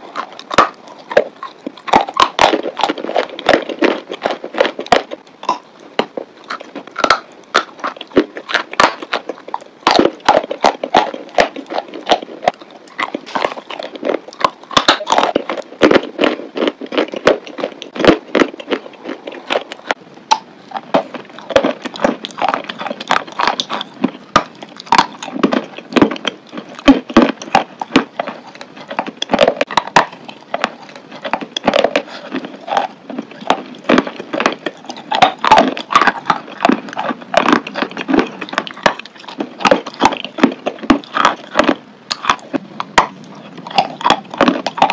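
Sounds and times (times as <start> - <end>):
chalk crunching while chewed: 0.0 - 44.9
wet mouth smacking: 0.1 - 18.0, 18.6 - 44.9.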